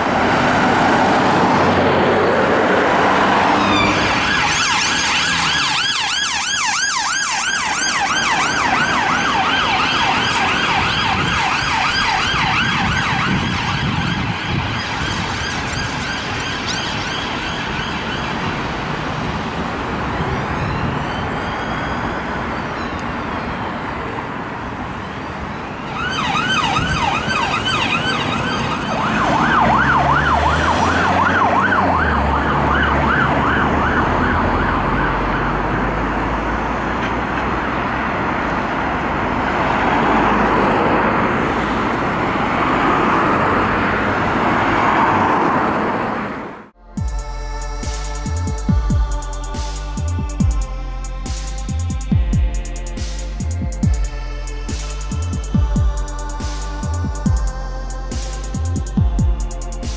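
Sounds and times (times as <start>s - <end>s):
police sirens yelping: 0.0s - 59.9s
slow siren sweep: 0.0s - 59.9s
traffic and engine noise: 0.0s - 59.9s.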